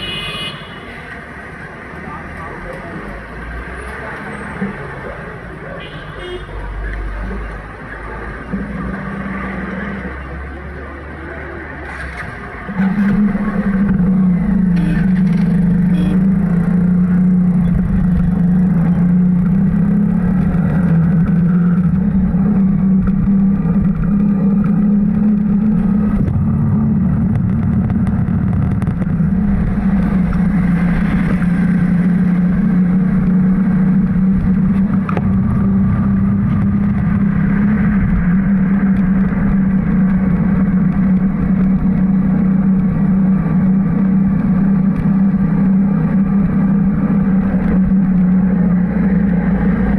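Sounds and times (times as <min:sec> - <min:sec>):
road rumble: 0:00.0 - 0:49.9
vehicle engine droning: 0:06.5 - 0:49.9.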